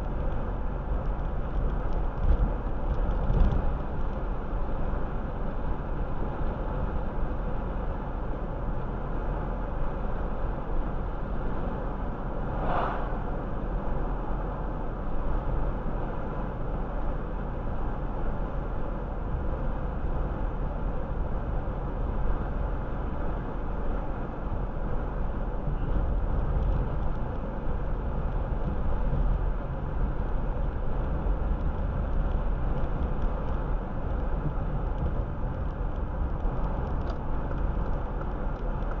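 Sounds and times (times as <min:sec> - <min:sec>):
road and tyre noise: 0:00.0 - 0:39.0.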